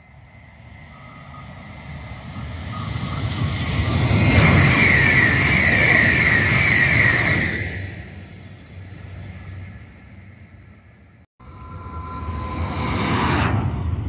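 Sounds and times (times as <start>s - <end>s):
high whine of train: 0.0s - 14.0s
high-speed train passing: 0.0s - 14.0s.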